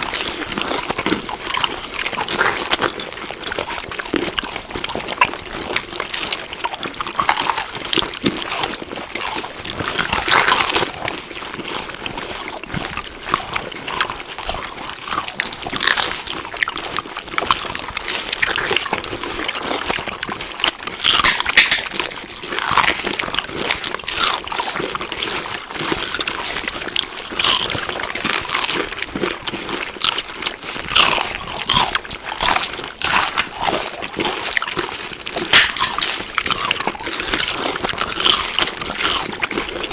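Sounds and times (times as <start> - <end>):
chewing food: 0.0 - 39.9.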